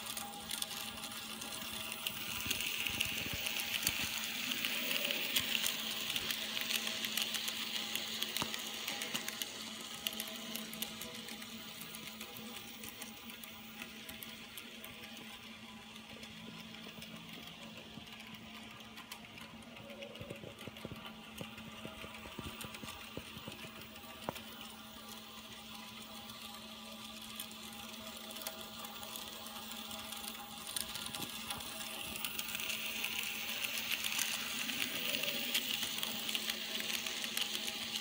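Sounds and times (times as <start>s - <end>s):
model train motor whirring: 0.0s - 38.0s
wheels clicking on rails: 0.0s - 38.0s.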